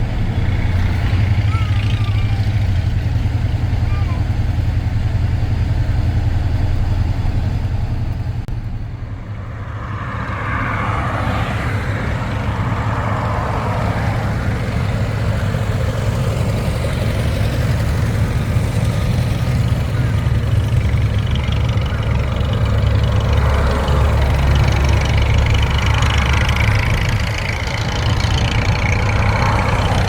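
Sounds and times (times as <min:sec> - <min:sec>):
tractor engine chugging: 0:00.0 - 0:10.0, 0:12.0 - 0:30.0.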